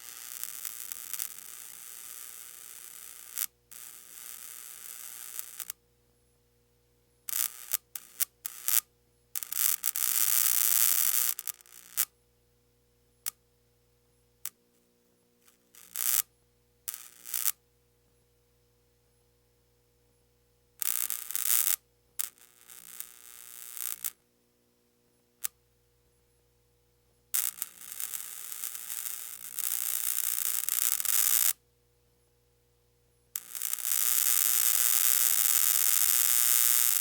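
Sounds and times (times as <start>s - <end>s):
faint mains hum: 0.0s - 37.0s.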